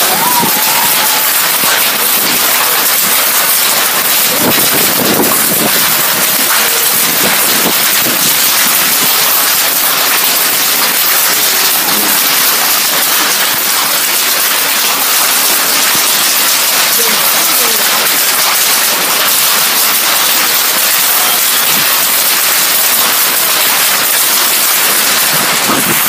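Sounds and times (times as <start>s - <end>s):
heavy rain on a metal roof: 0.0s - 26.0s.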